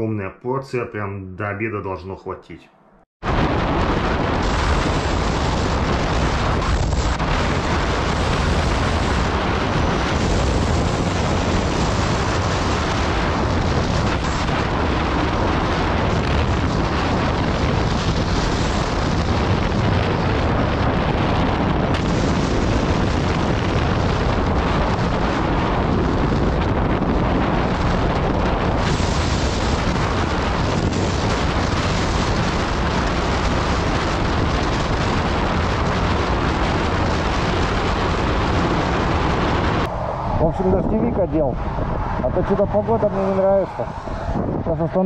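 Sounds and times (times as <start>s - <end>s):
motorcycle engine drone: 2.8s - 45.0s
wind buffeting microphone: 3.2s - 45.0s.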